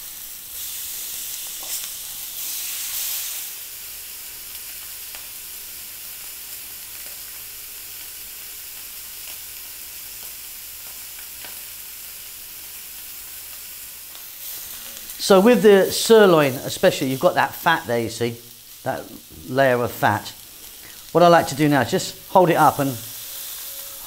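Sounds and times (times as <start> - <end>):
steaks sizzling in a pan: 0.0 - 24.0.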